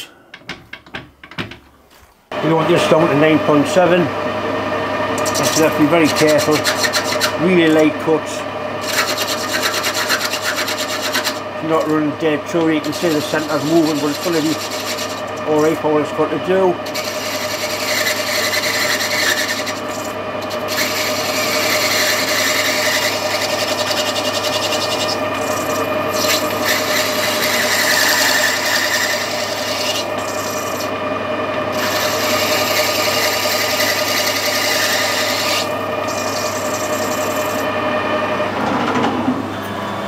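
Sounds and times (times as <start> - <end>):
lathe machine hum: 2.3 - 40.0
rasping metal cutting: 5.2 - 38.1.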